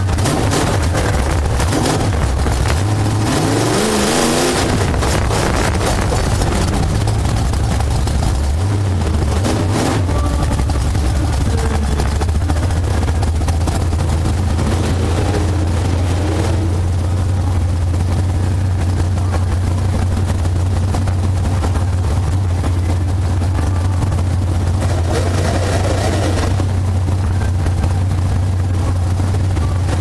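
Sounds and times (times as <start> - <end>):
race car engine idling: 0.0 - 30.0.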